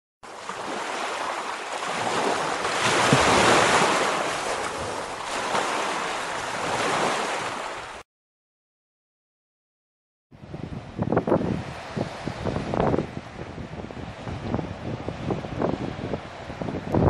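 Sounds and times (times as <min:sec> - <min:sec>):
ocean waves roaring: 0:00.2 - 0:08.0, 0:10.4 - 0:17.0.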